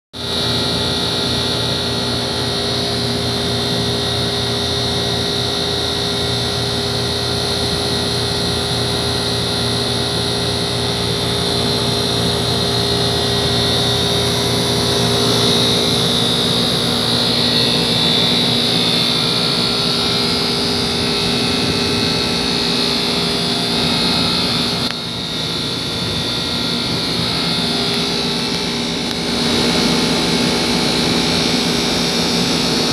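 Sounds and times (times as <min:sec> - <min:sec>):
compressor hum: 0:00.2 - 0:32.9
fan rushing: 0:00.2 - 0:32.9.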